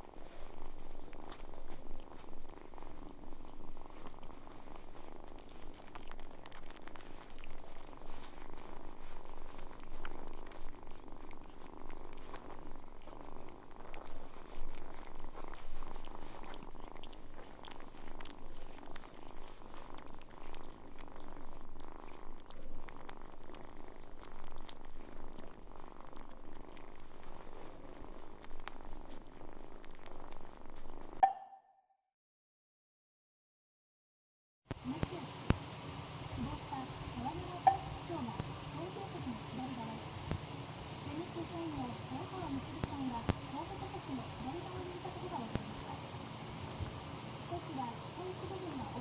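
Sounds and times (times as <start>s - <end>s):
cat purring: 0.0s - 31.3s, 34.7s - 49.0s.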